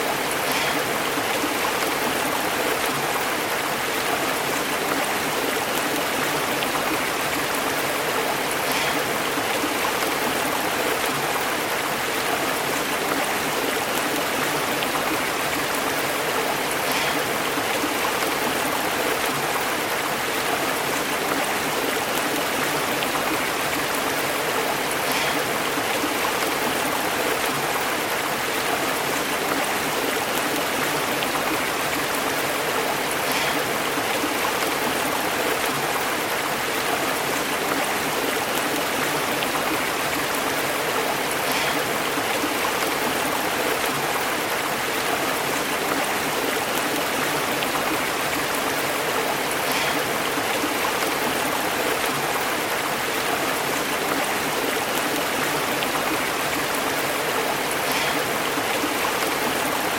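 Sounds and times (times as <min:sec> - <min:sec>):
stream bubbling over rocks: 0:00.0 - 0:59.9.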